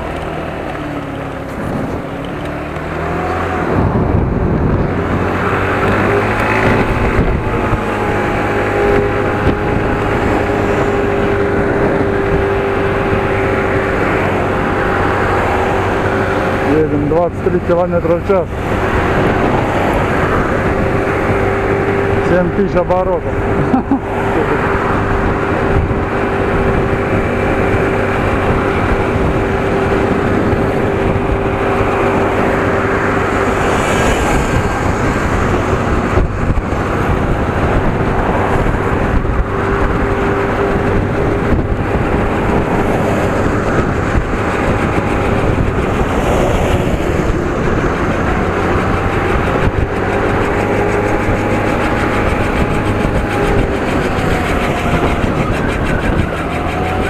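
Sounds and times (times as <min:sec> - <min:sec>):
mini motorcycle engine revving high: 0:00.0 - 0:57.0
road and wind noise: 0:00.0 - 0:57.0.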